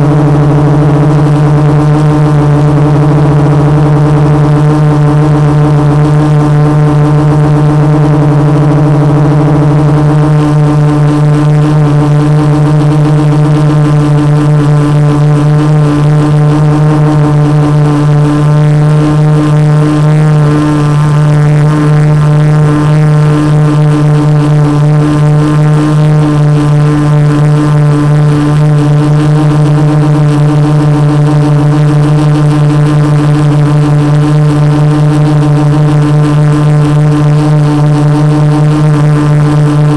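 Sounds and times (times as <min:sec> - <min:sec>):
drone motors droning hum: 0:00.0 - 0:39.9.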